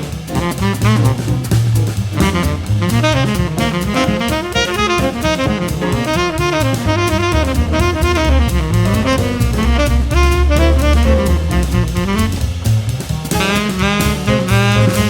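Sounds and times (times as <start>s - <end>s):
drum kit beat: 0.0s - 15.0s
walking bass: 0.0s - 15.0s
saxophone melody: 2.2s - 15.0s.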